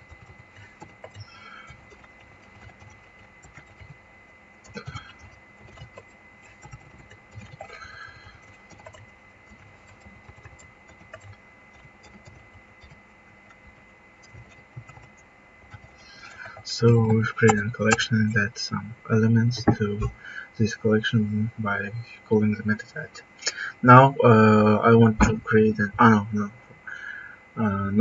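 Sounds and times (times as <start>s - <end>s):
thin high whine: 0.0s - 28.0s.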